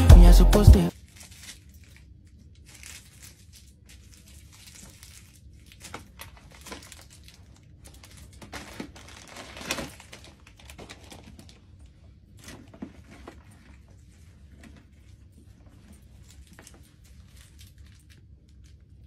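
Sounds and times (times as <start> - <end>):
plastic wrap crinkling and rustling: 0.9 - 19.0.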